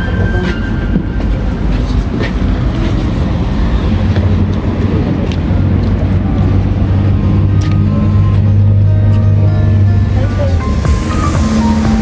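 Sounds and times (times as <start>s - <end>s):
tram rumbling: 0.0s - 12.0s.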